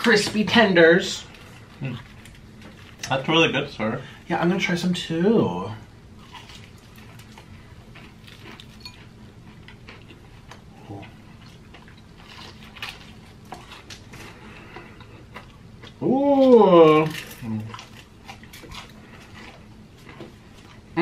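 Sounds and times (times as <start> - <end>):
people chewing crunchy food: 1.1 - 3.3, 6.1 - 21.0.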